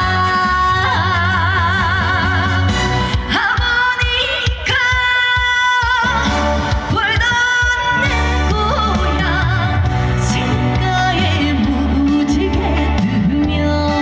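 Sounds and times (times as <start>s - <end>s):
backing track with bass and drums: 0.0s - 14.0s
woman singing: 0.0s - 14.0s.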